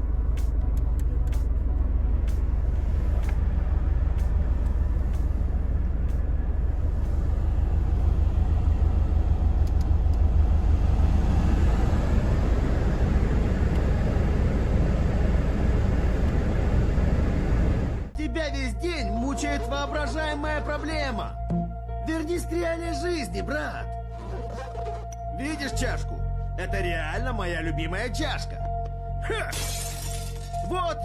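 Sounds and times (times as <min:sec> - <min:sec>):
car engine low rumble: 0:00.0 - 0:29.2.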